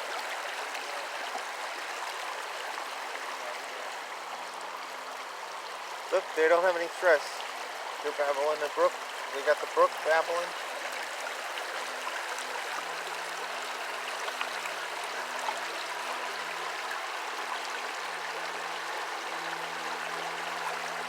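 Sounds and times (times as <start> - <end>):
stream babbling over rocks: 0.0 - 21.0.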